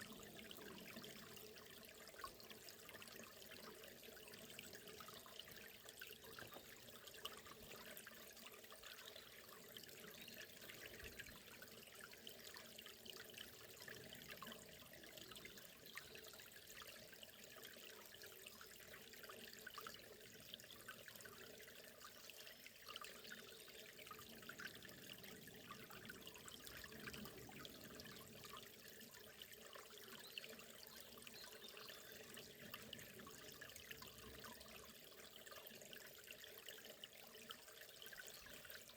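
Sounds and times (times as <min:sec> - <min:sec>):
river running and trickling: 0:00.0 - 0:38.9.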